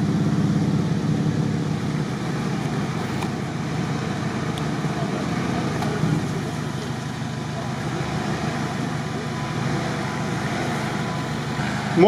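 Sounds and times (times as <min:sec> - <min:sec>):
engines running at low revs: 0:00.0 - 0:12.0.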